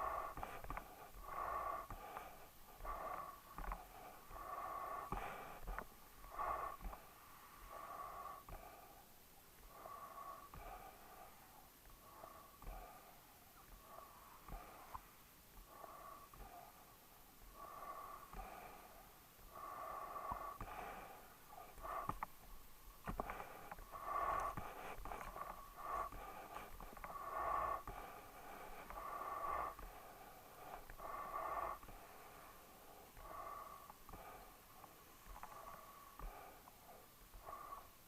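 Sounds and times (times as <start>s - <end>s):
dog breathing noisily: 0.0s - 38.0s.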